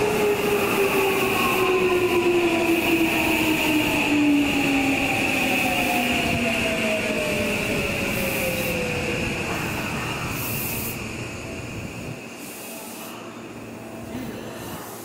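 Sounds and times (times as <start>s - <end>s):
electric train passing: 0.0s - 15.0s.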